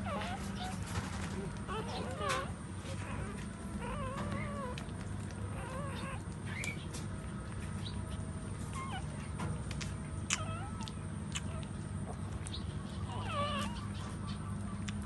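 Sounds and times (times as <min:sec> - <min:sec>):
low background hum: 0:00.0 - 0:15.0
puppies whimpering and squealing: 0:00.0 - 0:15.0.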